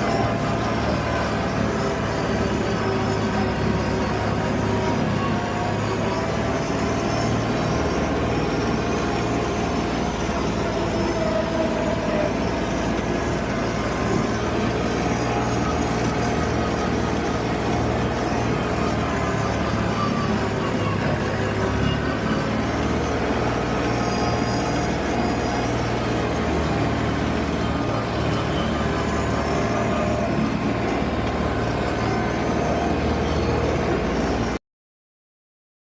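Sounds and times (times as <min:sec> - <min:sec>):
tractor engine droning: 0:00.0 - 0:34.6.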